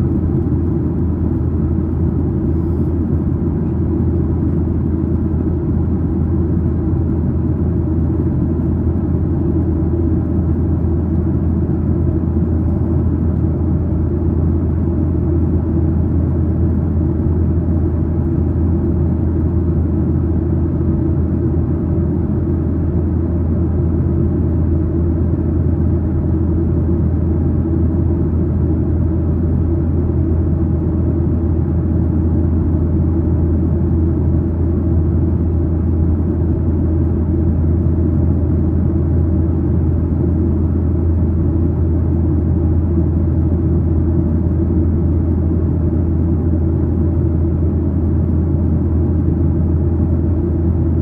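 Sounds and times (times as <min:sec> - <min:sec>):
airliner cabin rumble: 0:00.0 - 0:51.0.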